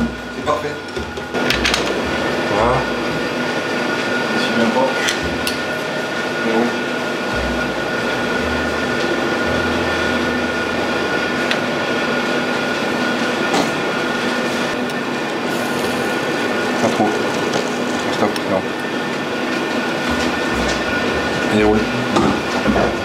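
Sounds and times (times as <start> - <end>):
kitchen machine drone: 0.0 - 23.0.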